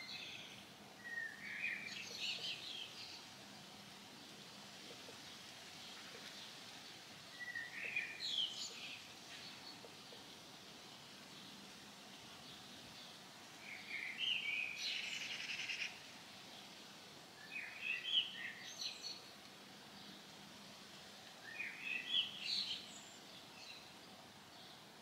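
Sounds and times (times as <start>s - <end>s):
faint outdoor background noise: 0.0s - 25.0s
songbird singing: 0.0s - 25.0s.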